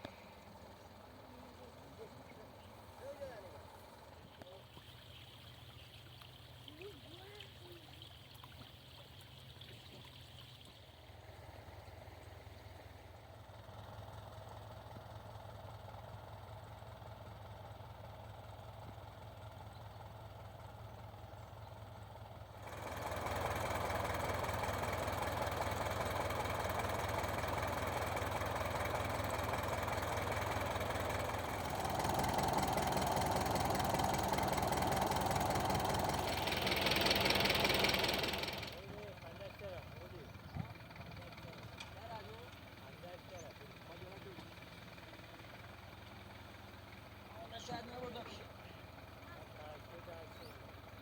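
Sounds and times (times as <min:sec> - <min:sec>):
combine harvester engine running: 0:00.0 - 0:08.1, 0:11.0 - 0:51.0.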